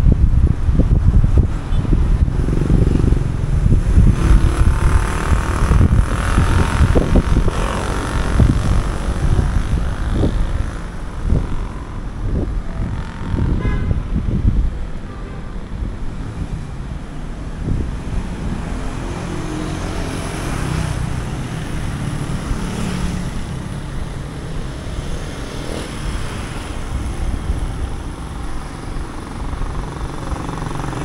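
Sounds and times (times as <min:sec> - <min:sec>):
cars and motorcycles driving by: 0:00.0 - 0:31.0
wind rumble on microphone: 0:00.0 - 0:31.0.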